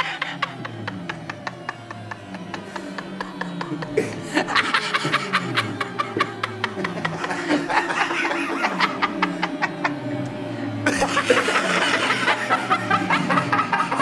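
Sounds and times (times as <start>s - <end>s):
man laughing: 0.0s - 14.0s.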